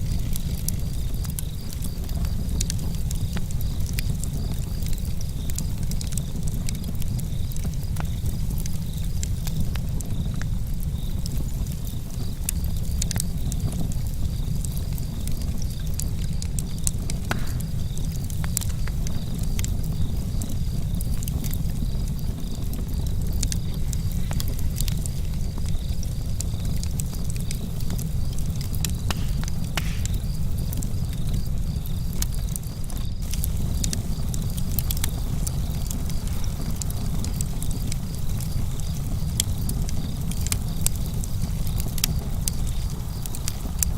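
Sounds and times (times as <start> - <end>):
campfire crackling and popping: 0.0 - 43.9
crickets chirping: 0.0 - 43.9.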